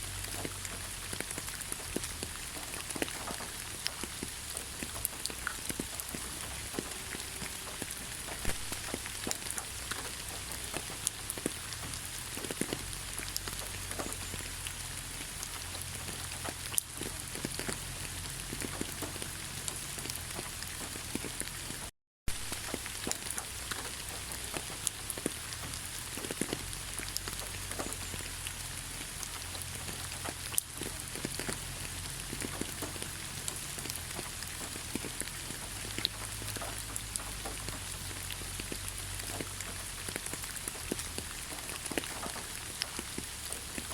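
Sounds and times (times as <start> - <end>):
raindrops ticking on a surface: 0.0 - 43.9
steady rain falling: 0.0 - 43.9.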